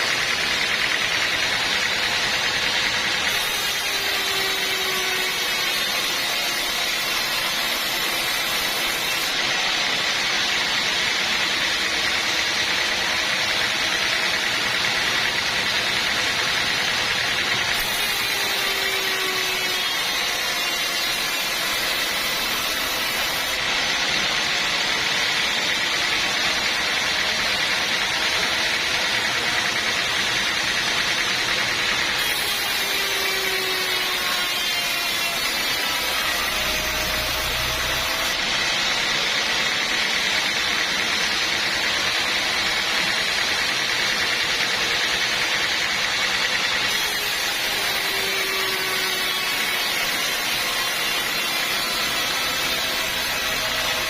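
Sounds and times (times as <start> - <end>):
sawmill machinery hiss and whine: 0.0 - 54.0.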